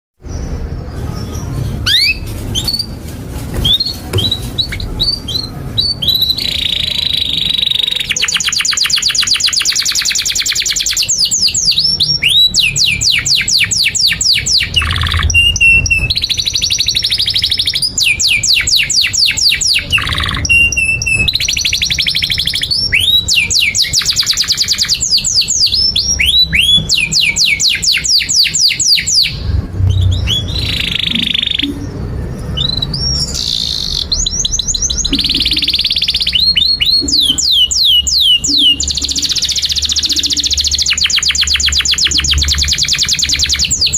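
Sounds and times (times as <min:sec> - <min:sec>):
canary singing trills: 0:00.2 - 0:03.0, 0:03.6 - 0:43.9.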